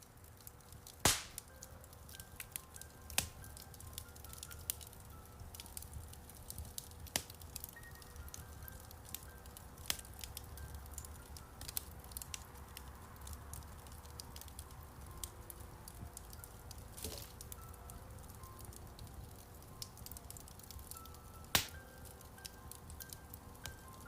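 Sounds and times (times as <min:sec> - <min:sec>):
faint piano notes: 0:00.0 - 0:24.0
wood fire crackling and popping: 0:00.0 - 0:24.0.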